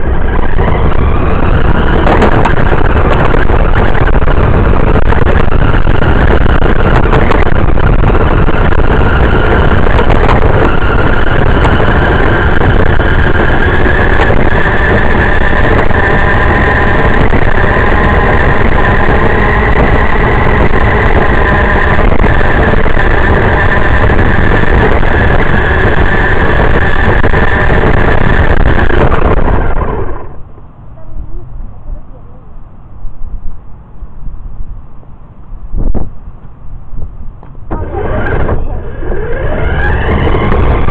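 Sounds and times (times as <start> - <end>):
motor whine: 0.0 - 30.7, 37.4 - 40.9
tyres rumbling on asphalt: 0.0 - 40.9.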